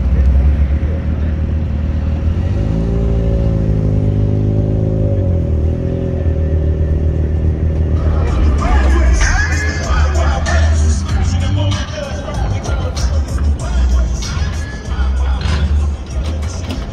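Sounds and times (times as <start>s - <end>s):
car engine revving: 0.0s - 16.9s
car engines rumbling: 0.0s - 16.9s.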